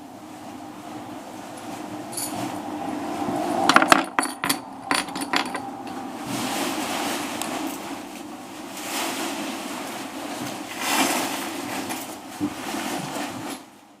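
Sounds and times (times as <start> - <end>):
wind rushing over microphone: 0.0 - 13.5.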